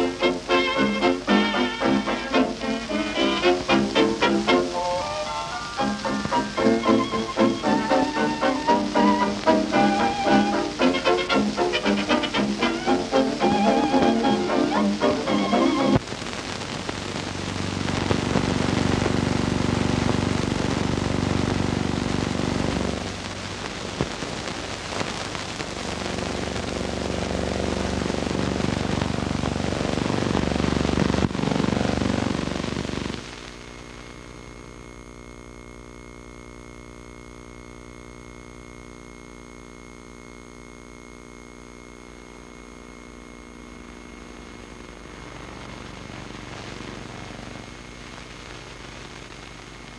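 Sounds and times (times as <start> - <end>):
loud crackling hiss: 0.0 - 34.2, 43.8 - 49.9
steady hum: 0.0 - 49.9.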